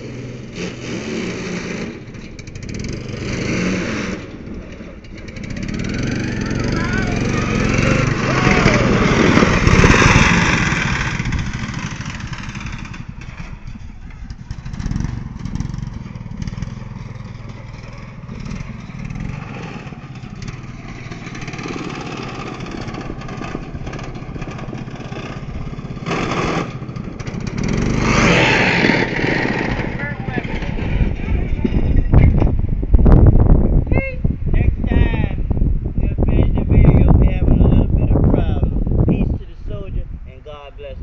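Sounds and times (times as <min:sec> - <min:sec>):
riding lawnmower engine running: 0:00.0 - 0:33.1.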